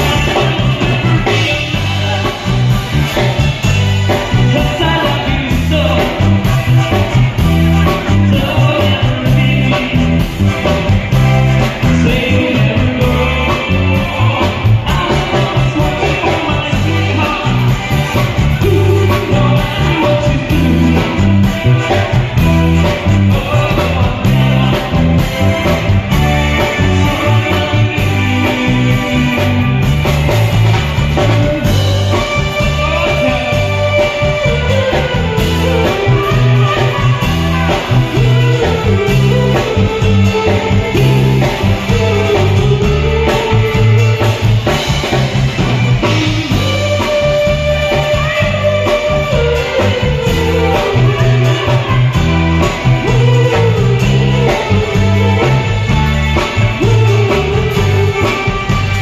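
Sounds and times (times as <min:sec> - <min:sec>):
bass guitar: 0:00.0 - 0:59.0
drum kit beat: 0:00.0 - 0:59.0
guitar: 0:00.0 - 0:59.0
live band through loudspeakers: 0:00.0 - 0:59.0
person singing: 0:00.0 - 0:59.0.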